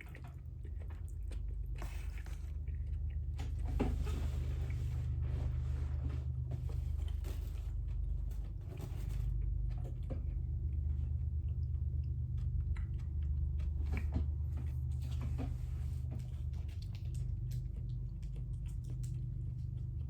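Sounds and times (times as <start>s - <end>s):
person chewing food: 0.0s - 20.0s
steady low hum: 0.0s - 20.0s.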